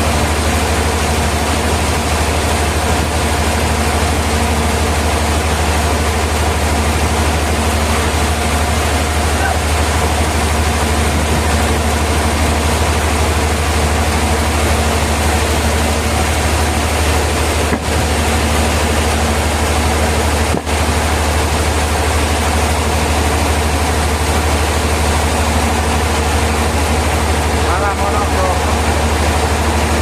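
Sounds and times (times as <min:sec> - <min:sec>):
sawmill machinery droning: 0:00.0 - 0:30.0.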